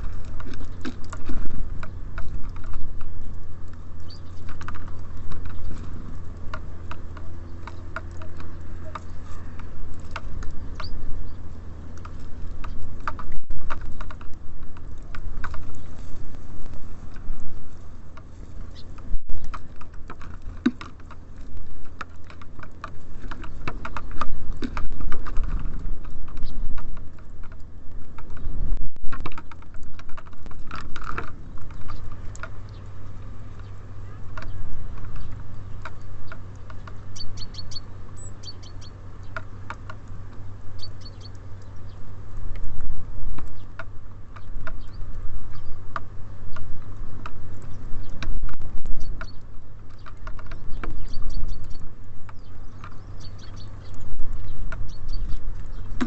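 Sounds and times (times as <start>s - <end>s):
birds pecking at seed: 0.0s - 56.0s
steady low hum: 0.0s - 56.0s.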